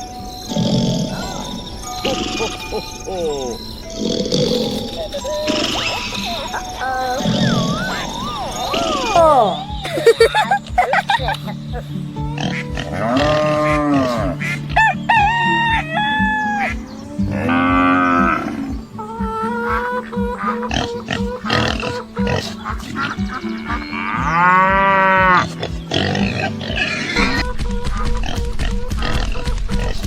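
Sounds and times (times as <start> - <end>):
background music with steady beat: 0.0 - 30.0
farm animal calls: 0.0 - 30.0.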